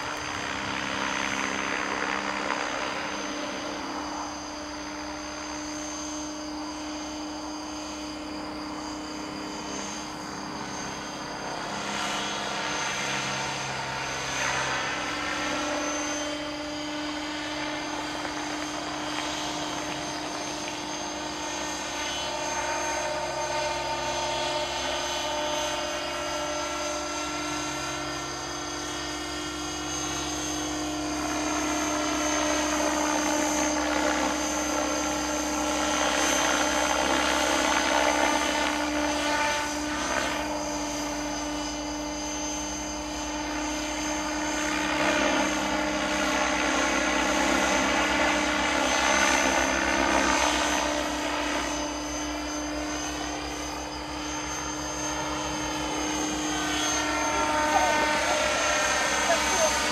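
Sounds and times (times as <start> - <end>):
model helicopter rotor whine: 0.0 - 59.9.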